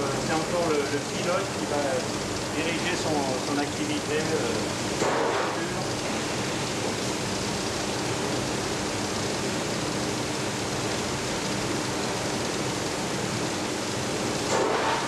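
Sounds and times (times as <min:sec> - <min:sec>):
gas torch flame hissing: 0:00.0 - 0:10.4, 0:13.1 - 0:15.0.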